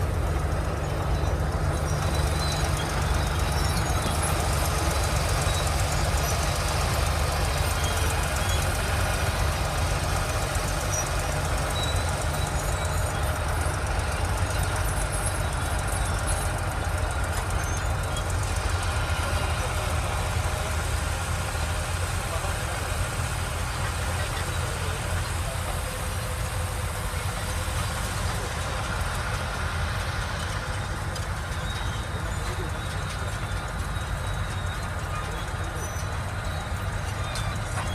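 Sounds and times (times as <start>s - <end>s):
heavy diesel engine droning: 0.0s - 37.9s.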